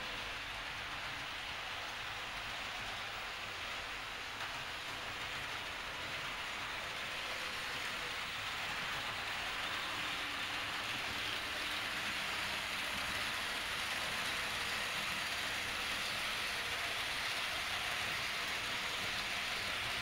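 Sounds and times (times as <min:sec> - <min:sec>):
model train rolling hiss: 0:00.0 - 0:20.0.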